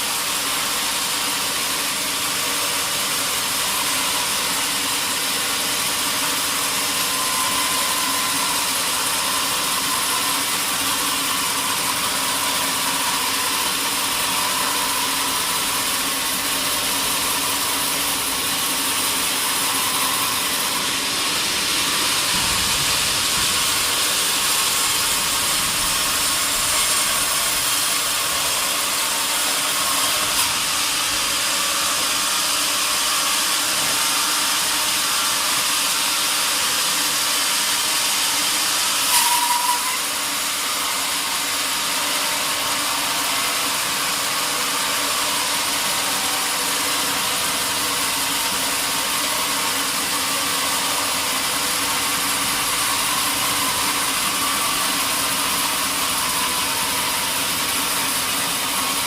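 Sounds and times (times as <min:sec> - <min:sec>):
sawmill saw hissing: 0:00.0 - 0:59.0.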